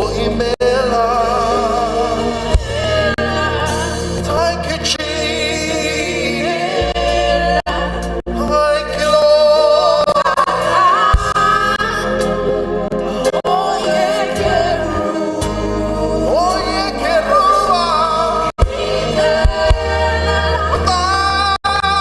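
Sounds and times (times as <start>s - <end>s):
steady low bass: 0.0s - 22.0s
voices singing gospel: 0.0s - 22.0s.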